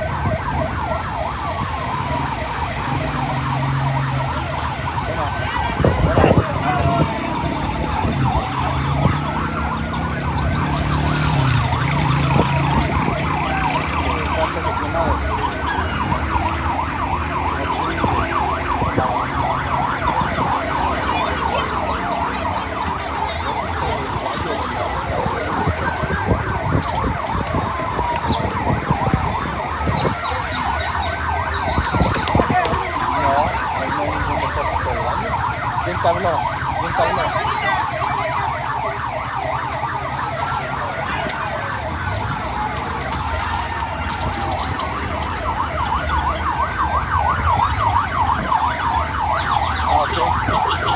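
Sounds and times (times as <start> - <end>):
emergency siren wailing: 0.0 - 50.9
motorbikes and traffic: 0.0 - 50.9.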